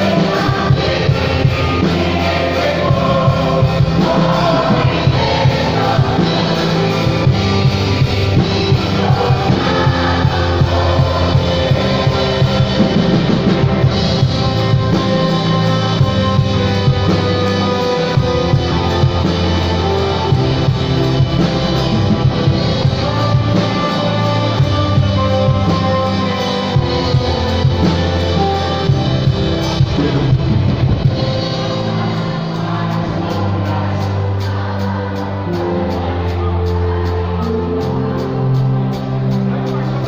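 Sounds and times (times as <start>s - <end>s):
rock band playing: 0.0s - 40.0s
steady drum beat: 0.0s - 40.0s.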